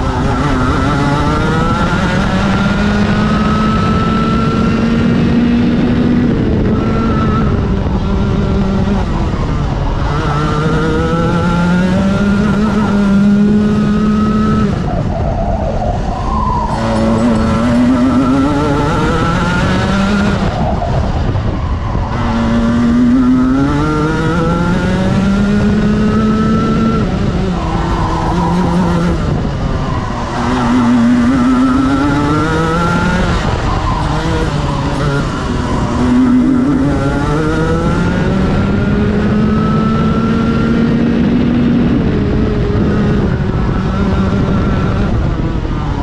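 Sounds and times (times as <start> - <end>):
kart engine accelerating: 0.0 - 46.0.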